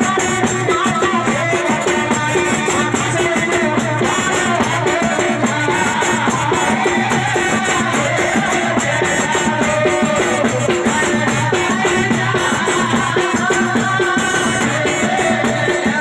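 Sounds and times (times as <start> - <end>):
fast dense percussion: 0.0 - 16.0.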